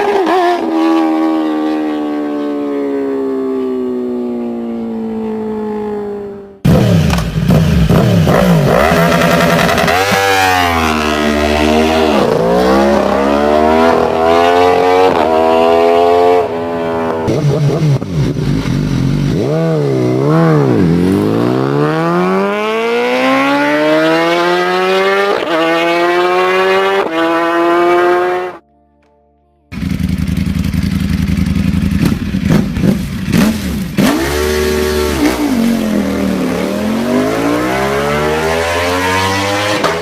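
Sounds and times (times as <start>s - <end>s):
motorcycle engines revving: 0.0s - 28.6s, 29.7s - 40.0s.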